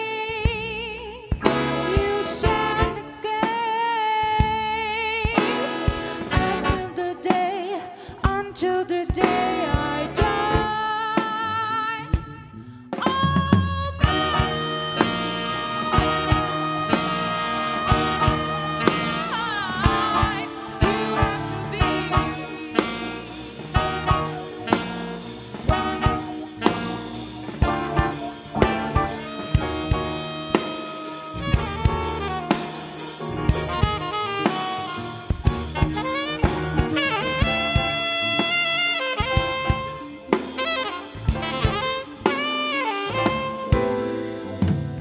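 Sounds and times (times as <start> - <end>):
drum kit beat: 0.0 - 12.4, 13.0 - 45.0
bass: 0.0 - 45.0
electric guitar: 0.0 - 45.0
piano: 0.0 - 45.0
alto saxophones: 1.4 - 12.6, 13.9 - 45.0.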